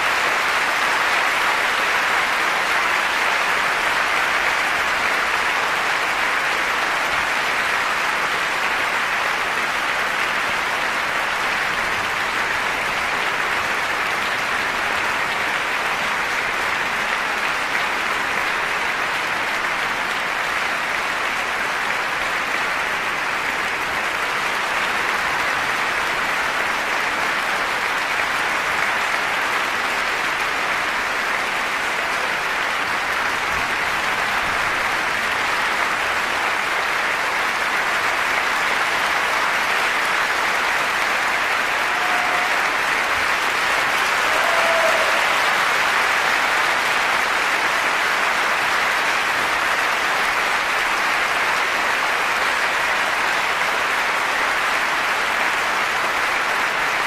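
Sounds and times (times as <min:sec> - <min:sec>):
audience applauding: 0:00.0 - 0:57.0.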